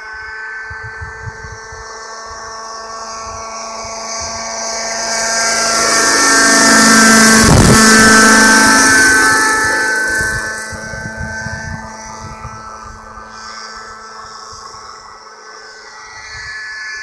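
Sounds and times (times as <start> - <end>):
model helicopter engine whining: 0.0 - 17.0
low rotor chop: 0.7 - 14.8.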